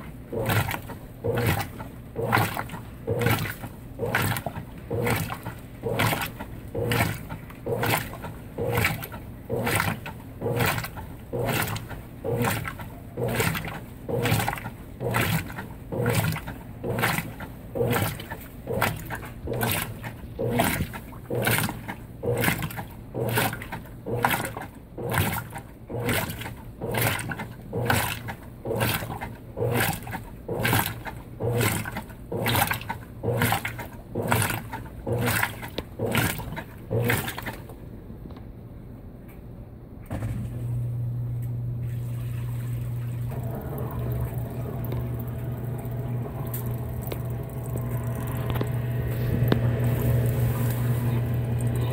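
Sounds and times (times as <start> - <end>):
water swishing in washing machine: 0.0 - 38.4, 40.1 - 51.9
washing machine draining hum: 0.0 - 51.9.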